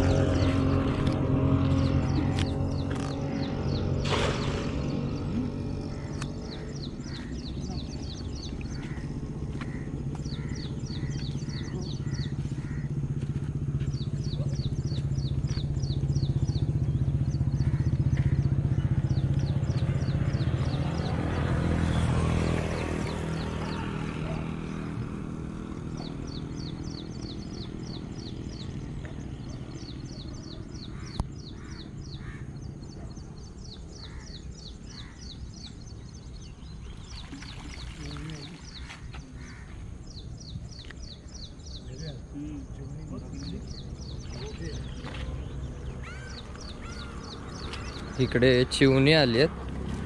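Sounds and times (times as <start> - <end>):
vehicle engine passing: 0.0 - 50.0.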